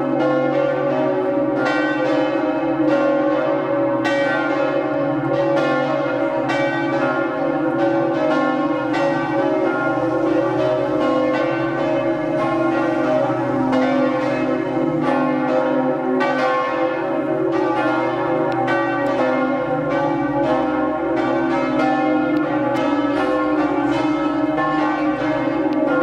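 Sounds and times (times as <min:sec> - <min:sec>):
church bells pealing: 0:00.0 - 0:26.0.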